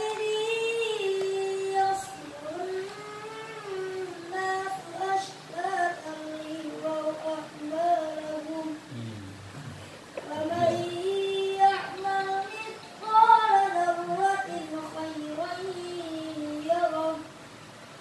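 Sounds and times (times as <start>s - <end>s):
child chanting melodic recitation: 0.0s - 9.2s, 10.2s - 17.4s.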